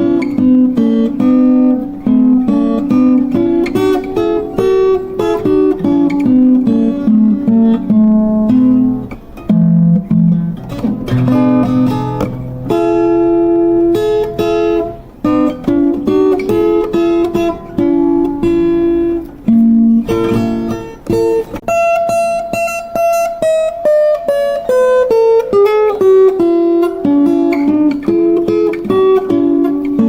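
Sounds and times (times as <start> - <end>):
plucked acoustic string melody: 0.0 - 30.0.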